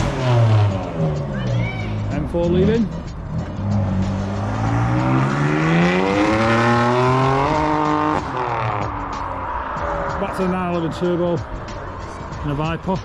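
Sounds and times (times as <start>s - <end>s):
car engine accelerating: 0.0s - 10.5s.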